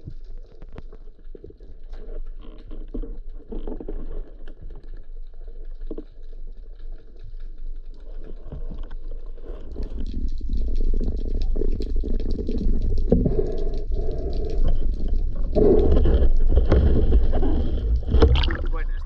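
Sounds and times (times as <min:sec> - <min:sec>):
muffled underwater rumble: 0:00.0 - 0:19.0
small clicks and crackles: 0:00.0 - 0:19.0.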